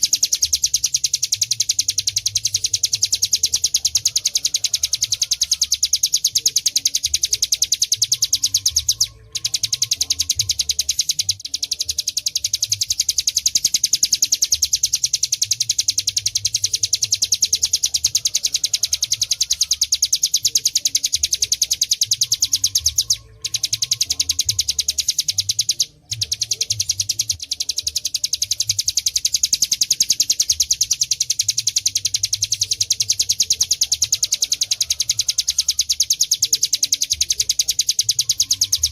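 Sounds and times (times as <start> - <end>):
bird rattling trill: 0.0 - 38.9.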